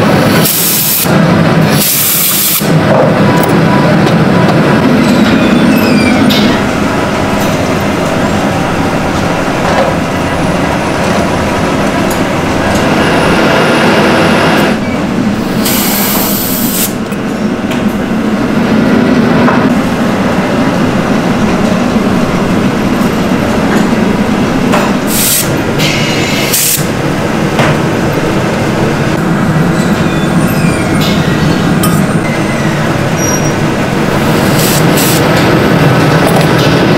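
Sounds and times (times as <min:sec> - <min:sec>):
factory machinery running: 0:00.0 - 0:36.9.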